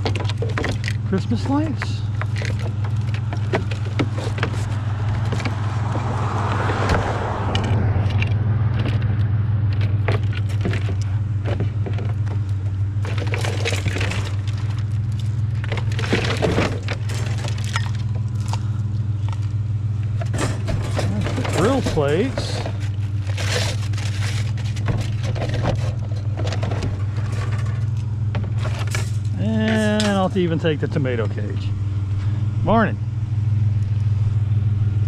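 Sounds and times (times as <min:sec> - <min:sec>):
scrap items clinking and rattling: 0:00.0 - 0:06.8, 0:07.5 - 0:30.5
vehicle engine idling: 0:00.0 - 0:35.0.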